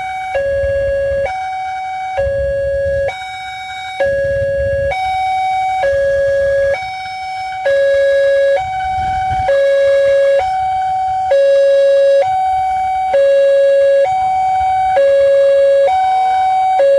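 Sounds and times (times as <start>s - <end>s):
two-note crossing alarm: 0.0s - 16.9s.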